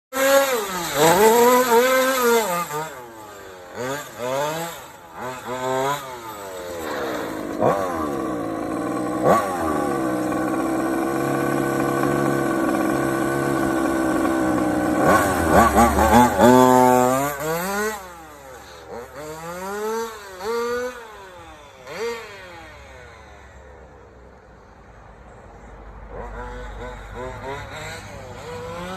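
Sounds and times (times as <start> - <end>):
small two-stroke engine revving: 0.1 - 24.2, 25.5 - 28.9.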